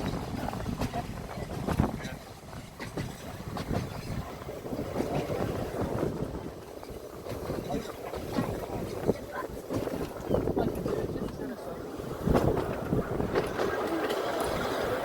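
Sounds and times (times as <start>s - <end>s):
tram rumbling on track: 0.0s - 15.0s
wheels knocking and clattering: 0.0s - 15.0s
wind buffeting microphone: 0.0s - 15.0s.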